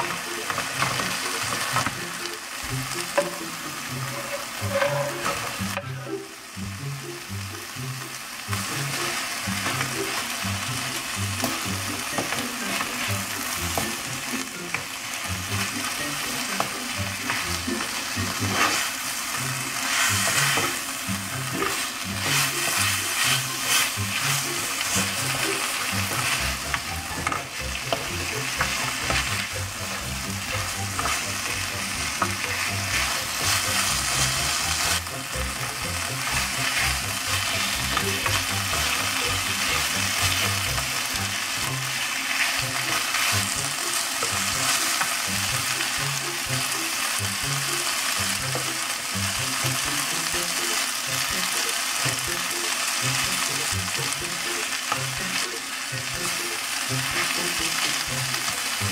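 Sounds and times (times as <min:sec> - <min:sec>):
food sizzling in a wok: 0:00.0 - 0:58.9.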